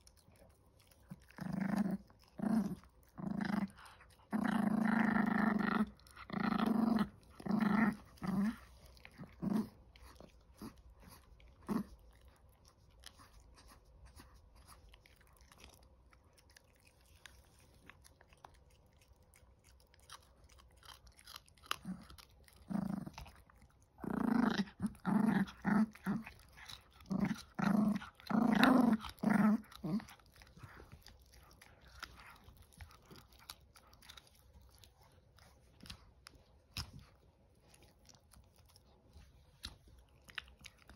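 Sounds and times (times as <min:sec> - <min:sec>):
puppy gnawing chew stick: 0:00.0 - 0:40.9
puppy growling: 0:00.0 - 0:40.9.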